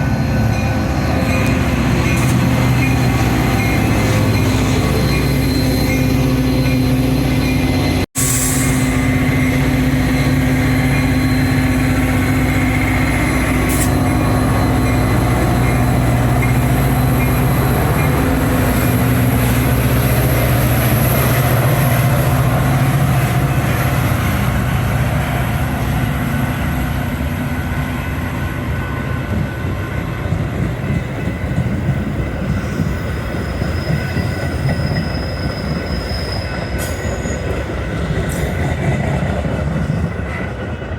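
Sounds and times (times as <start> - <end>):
train engine hum: 0.0 - 40.9
train wheels rumbling on rail: 0.0 - 40.9.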